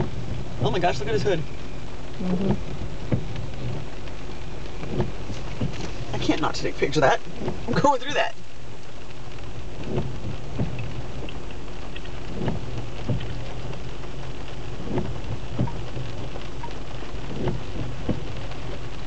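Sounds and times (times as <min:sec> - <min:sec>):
heavy rain drumming on a car: 0:00.0 - 0:19.0.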